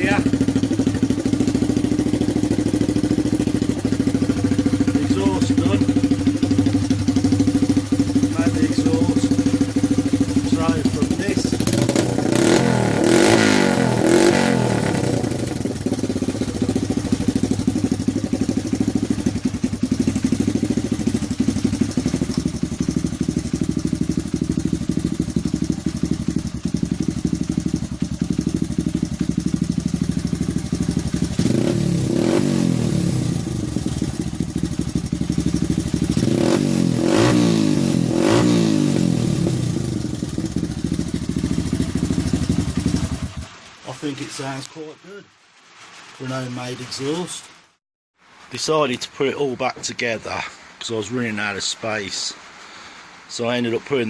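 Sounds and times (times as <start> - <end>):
motorcycle engine idling and revving: 0.0 - 44.6.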